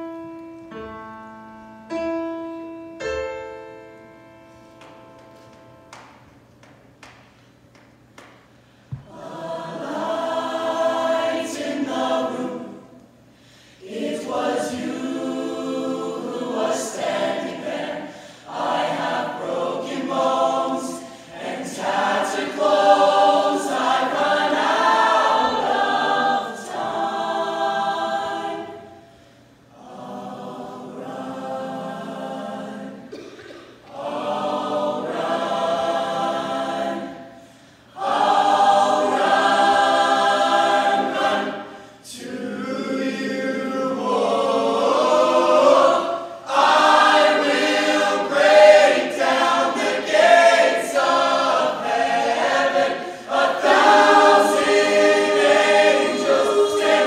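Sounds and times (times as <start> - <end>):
large choir singing: 8.9 - 57.0.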